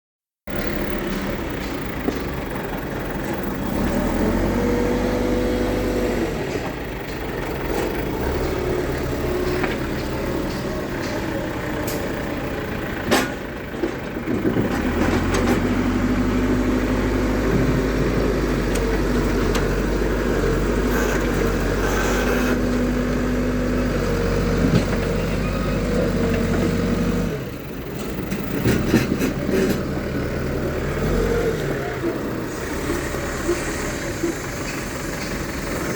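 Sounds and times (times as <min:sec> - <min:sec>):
diesel engine revving: 0:00.5 - 0:35.9.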